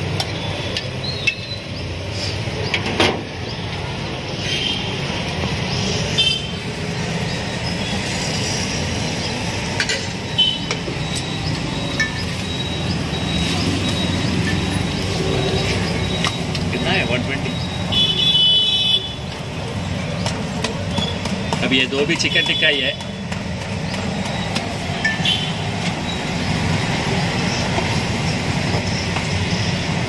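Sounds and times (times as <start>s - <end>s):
street traffic hum: 0.0s - 30.0s.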